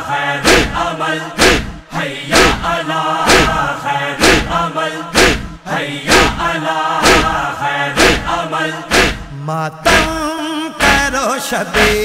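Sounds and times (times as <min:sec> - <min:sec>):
men chanting in chorus: 0:00.0 - 0:12.0
rhythmic chest-beating: 0:00.0 - 0:12.0.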